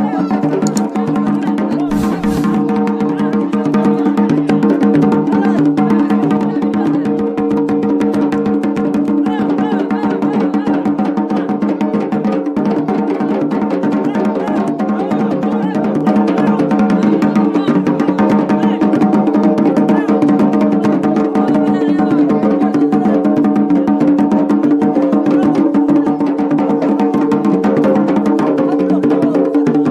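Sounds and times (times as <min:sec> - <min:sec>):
fast drumming: 0:00.0 - 0:29.9.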